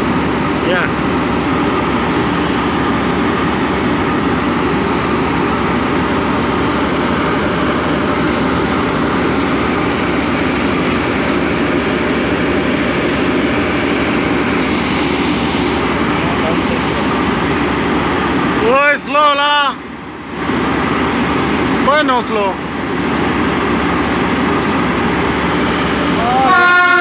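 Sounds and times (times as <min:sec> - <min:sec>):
boat engine drone: 0:00.0 - 0:27.0.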